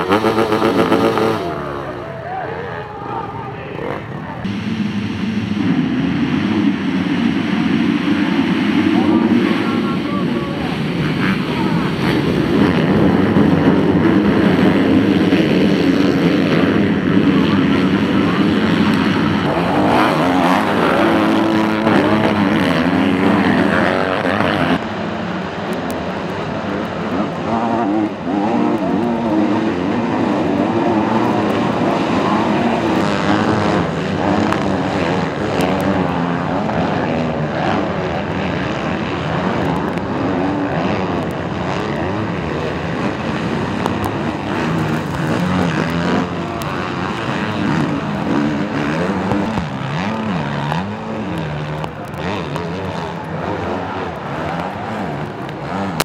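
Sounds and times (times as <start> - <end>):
motocross bike engines revving: 0.0 - 56.0.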